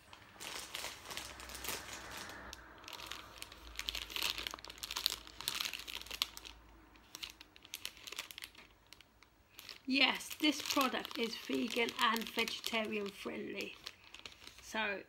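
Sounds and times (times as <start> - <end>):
plastic wrapper crinkling: 0.0 - 14.9.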